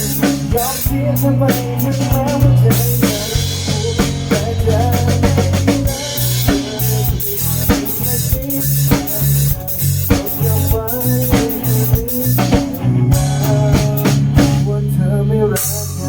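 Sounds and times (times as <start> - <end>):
drum kit beat: 0.0 - 14.8
bass notes: 0.0 - 16.0.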